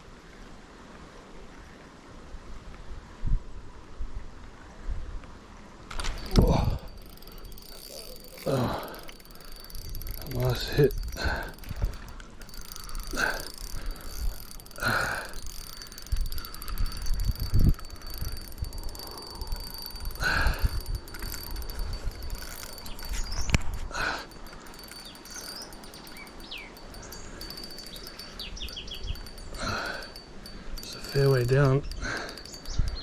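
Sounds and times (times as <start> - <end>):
fishing reel buzzing: 5.9 - 33.0.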